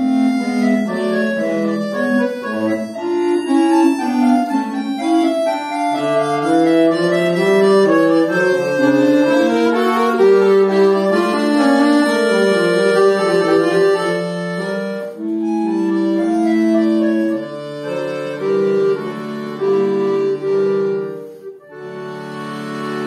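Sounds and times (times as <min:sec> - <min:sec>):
button accordion playing chords: 0:00.0 - 0:23.0.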